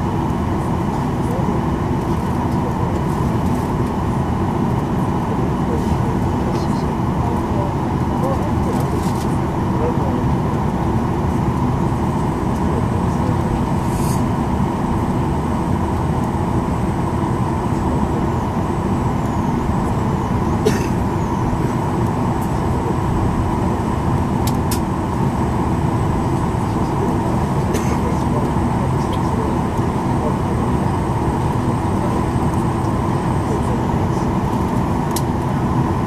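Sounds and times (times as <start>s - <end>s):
air conditioning hum: 0.0s - 36.0s.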